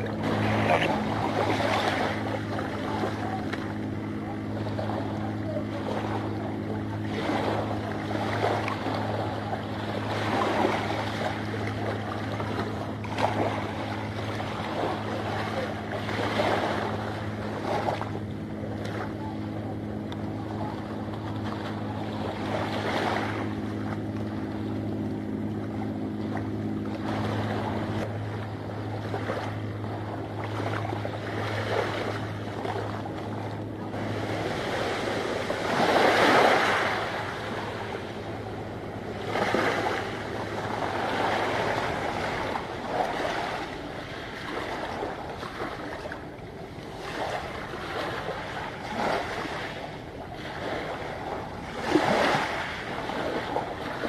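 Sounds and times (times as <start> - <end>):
low steady hum: 0.0 - 54.0
waves washing: 0.0 - 54.0.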